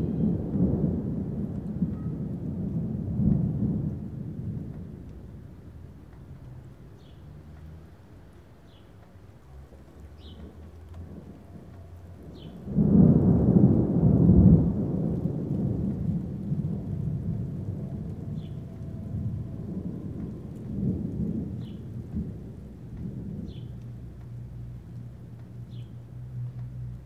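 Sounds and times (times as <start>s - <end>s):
thunder crack: 0.0s - 5.9s, 10.2s - 26.1s
low thunder rumble: 0.0s - 27.0s.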